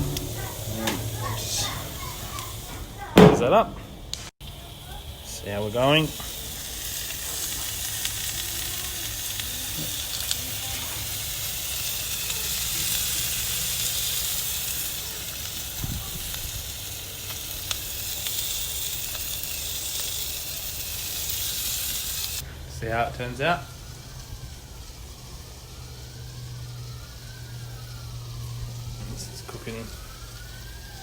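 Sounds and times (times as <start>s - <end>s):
food sizzling in butter: 0.0s - 3.6s, 4.4s - 31.0s.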